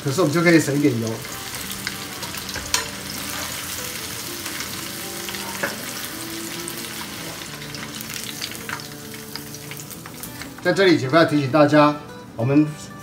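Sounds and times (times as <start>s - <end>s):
food deep-frying in oil: 0.0s - 10.6s.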